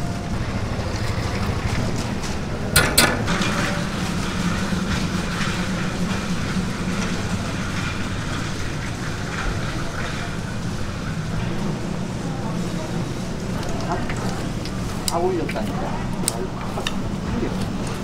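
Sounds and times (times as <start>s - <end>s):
street food stall rumble: 0.0s - 18.0s.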